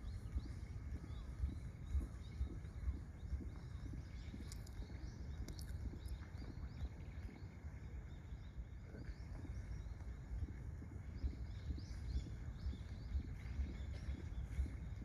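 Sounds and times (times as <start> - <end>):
low rumble: 0.0 - 15.0
small birds chirping: 0.0 - 15.0.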